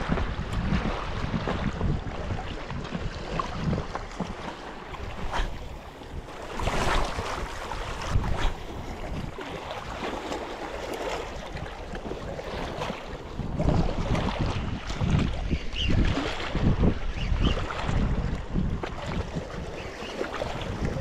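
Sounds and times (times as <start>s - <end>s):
water lapping at shore: 0.0s - 21.0s
wind buffeting microphone: 0.0s - 21.0s.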